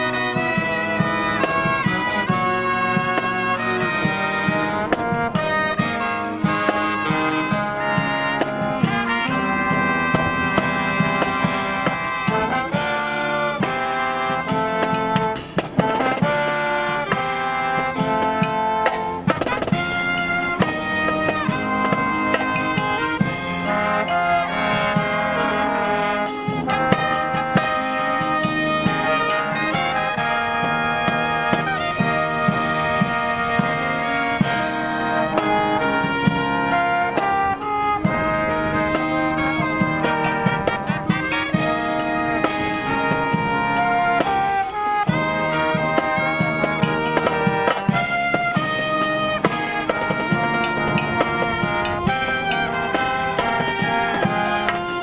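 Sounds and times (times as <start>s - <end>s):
drum kit steady beat: 0.0s - 55.0s
marching brass band playing: 0.0s - 55.0s.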